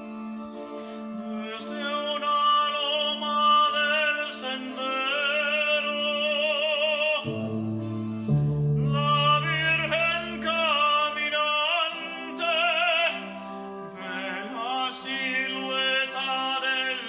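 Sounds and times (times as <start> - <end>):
instrumental accompaniment: 0.0 - 17.0
operatic singing with vibrato: 1.2 - 7.9, 8.8 - 17.0.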